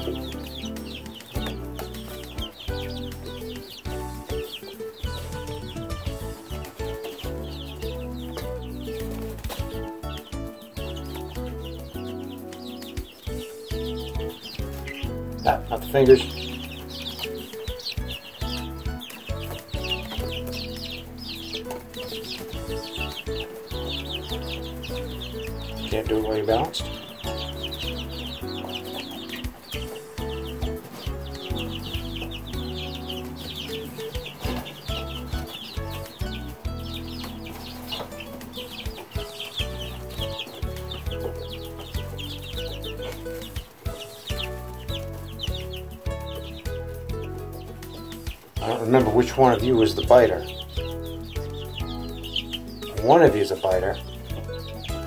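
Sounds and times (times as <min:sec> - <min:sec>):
background music with held low notes: 0:00.0 - 0:55.0
chicks peeping: 0:00.0 - 0:55.0.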